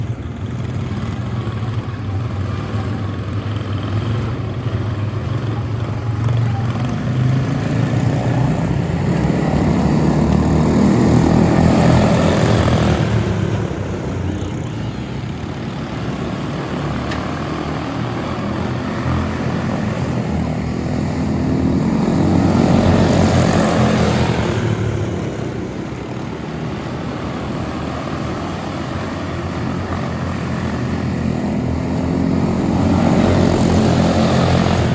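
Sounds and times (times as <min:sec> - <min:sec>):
propeller plane flying past: 0:06.5 - 0:34.9.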